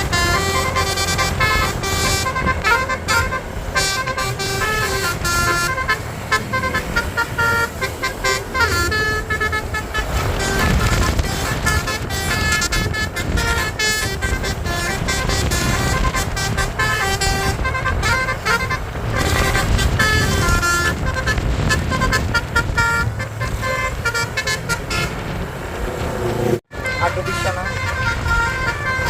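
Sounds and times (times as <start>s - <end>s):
musical air horn tune: 0.0s - 25.6s, 26.4s - 29.0s
bus rumble: 0.0s - 29.0s.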